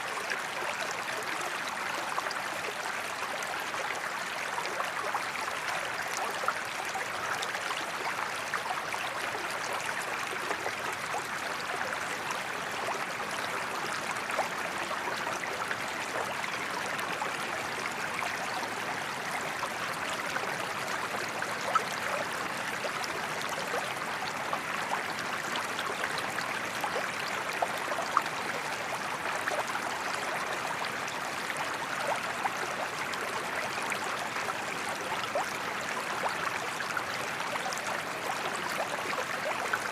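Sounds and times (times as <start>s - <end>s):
water flowing over small waterfall: 0.0s - 39.9s.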